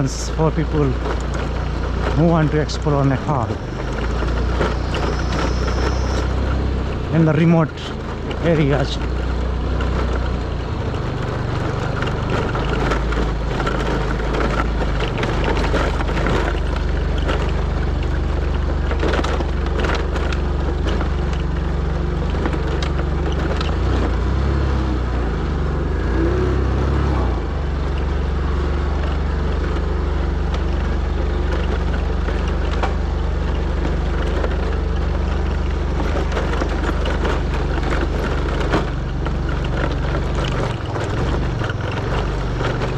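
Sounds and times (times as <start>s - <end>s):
rattles and knocks from bumpy ride: 0.0s - 42.9s
vehicle engine running: 0.0s - 42.9s.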